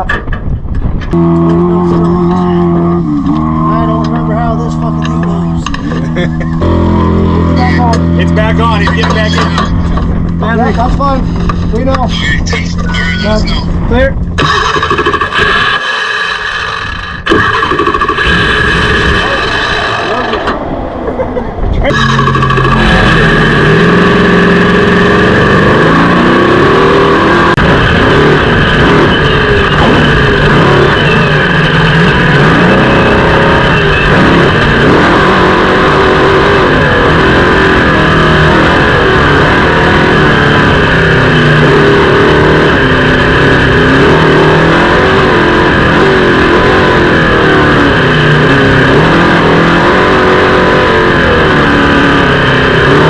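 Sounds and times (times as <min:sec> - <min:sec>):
truck engine revving: 0:00.8 - 0:53.0.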